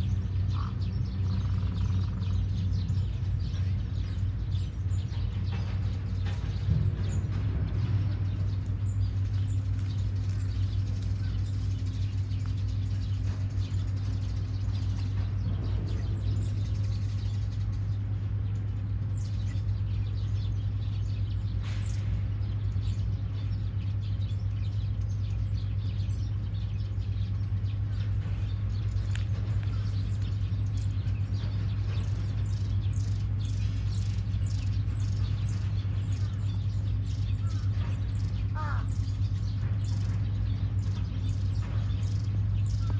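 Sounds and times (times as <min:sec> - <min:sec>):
small birds chirping: 0:00.0 - 0:42.9
steady low hum: 0:00.0 - 0:42.9.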